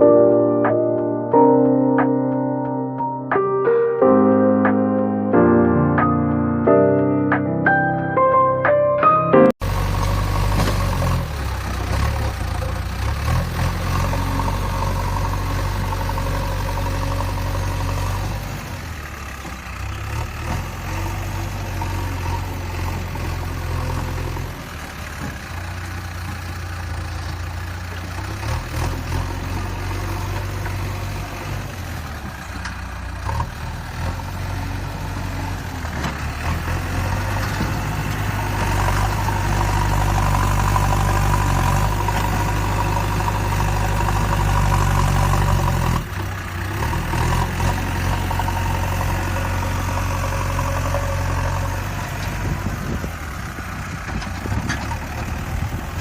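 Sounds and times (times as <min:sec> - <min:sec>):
diesel engine running at low revs: 0:09.6 - 0:56.0.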